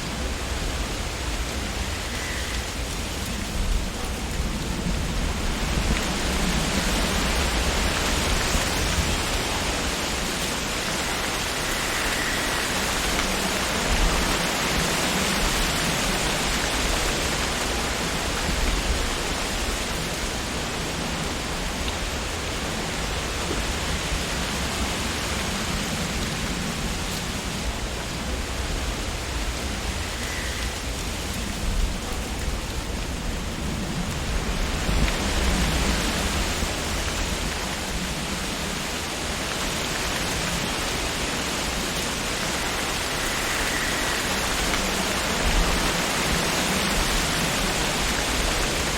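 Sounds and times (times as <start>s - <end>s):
leaves rustling in wind: 0.0s - 48.9s
low wind rumble: 0.0s - 48.9s.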